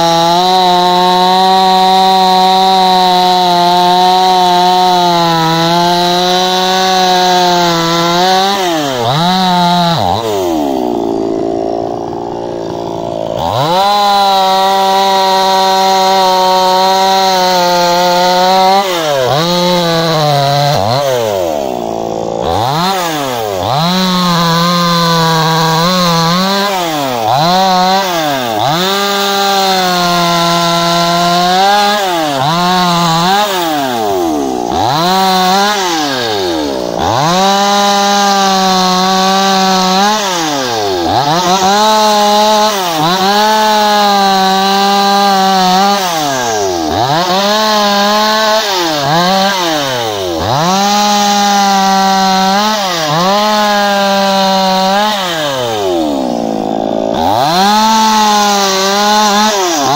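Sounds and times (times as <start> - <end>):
chainsaw cutting branches: 0.0 - 59.9.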